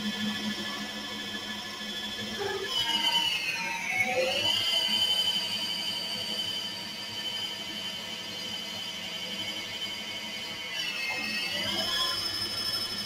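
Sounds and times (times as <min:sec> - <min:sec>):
lathe spindle drive whining: 0:00.0 - 0:13.0.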